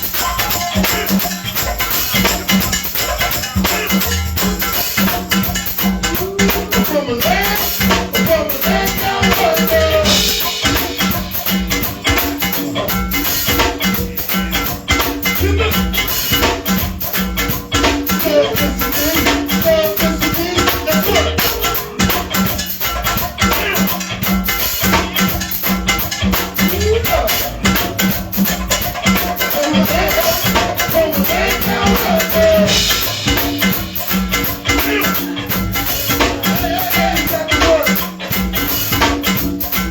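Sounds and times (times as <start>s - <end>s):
live band playing: 0.0s - 39.9s
shaker-like percussion: 0.0s - 39.9s
steady drum beat: 0.0s - 39.9s.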